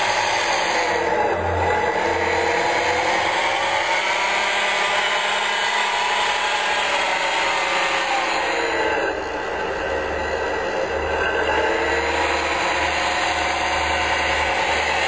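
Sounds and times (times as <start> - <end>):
electric motor whirring whine: 0.0 - 15.0.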